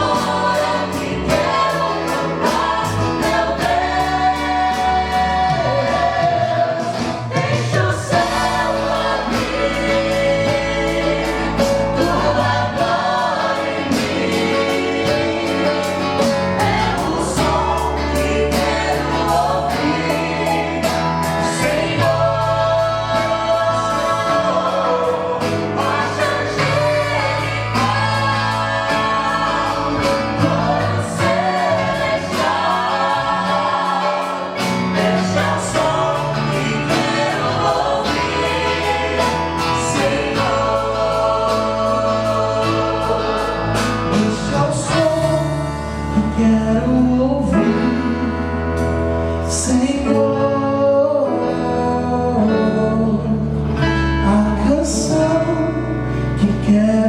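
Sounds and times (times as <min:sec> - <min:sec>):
held bass notes: 0:00.0 - 0:57.0
vocal group singing gospel: 0:00.0 - 0:57.0.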